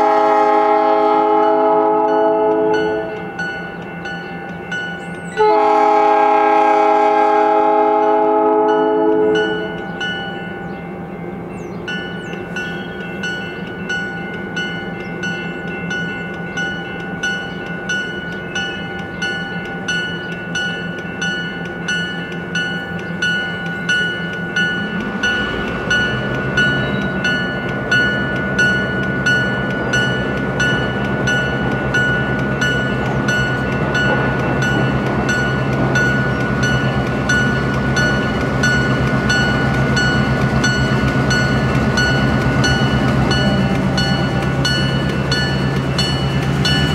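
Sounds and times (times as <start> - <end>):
locomotive bell ringing: 0.0 - 46.9
train rolling noise: 0.0 - 46.9.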